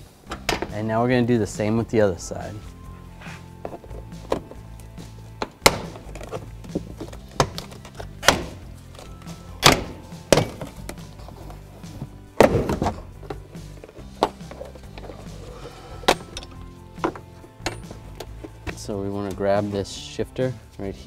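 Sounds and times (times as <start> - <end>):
quiet background music: 0.0 - 21.0.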